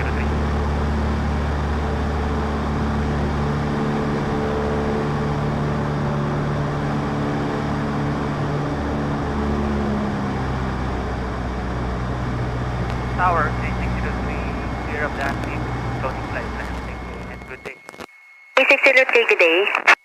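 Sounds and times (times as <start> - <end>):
small plane engine and propeller: 0.0 - 17.6.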